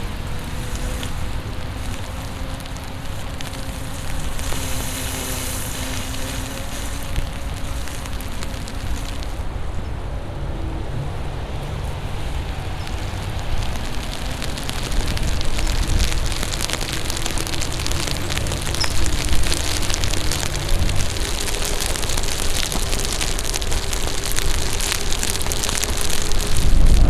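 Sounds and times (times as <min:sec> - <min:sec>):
rain falling: 0:00.0 - 0:27.0
wet tyre noise: 0:00.0 - 0:27.0
wind rumble: 0:00.0 - 0:27.0.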